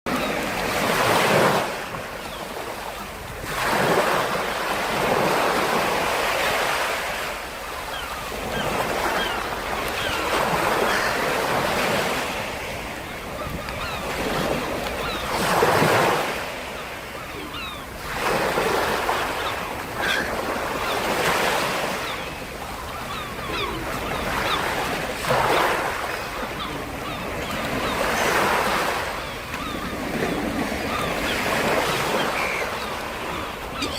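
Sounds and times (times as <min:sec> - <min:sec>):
sea waves breaking on shore: 0:00.1 - 0:33.9.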